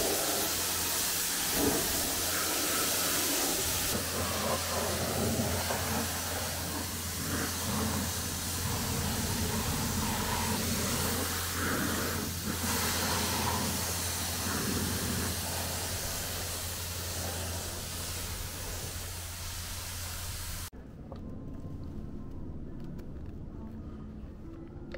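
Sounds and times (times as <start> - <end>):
motor humming: 0.0 - 20.7
pressure washer spraying water: 0.0 - 20.7.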